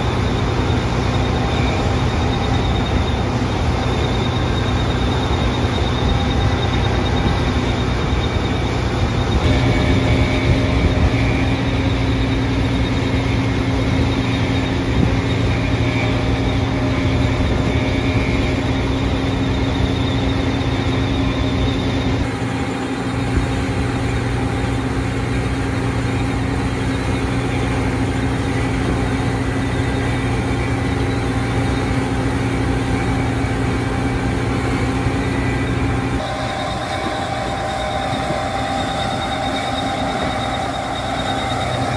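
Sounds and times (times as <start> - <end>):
combine harvester engine drone: 0.0 - 41.9.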